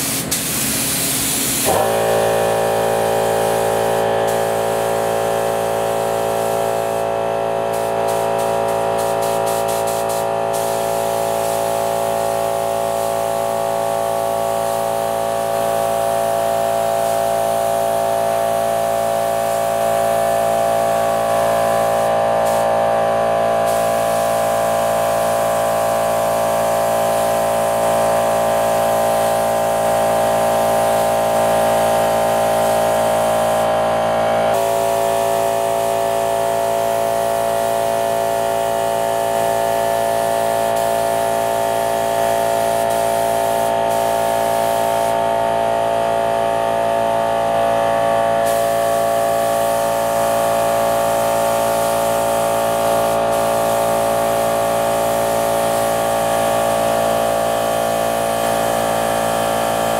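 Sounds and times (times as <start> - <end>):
spray gun air hissing: 0.0 - 45.5, 47.9 - 56.6.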